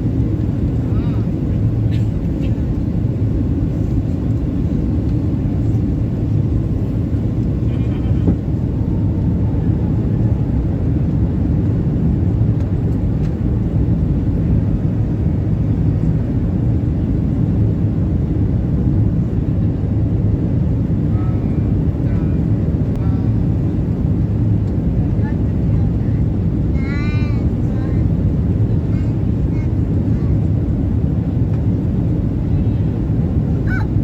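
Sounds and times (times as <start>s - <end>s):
airliner cabin rumble: 0.0s - 34.0s.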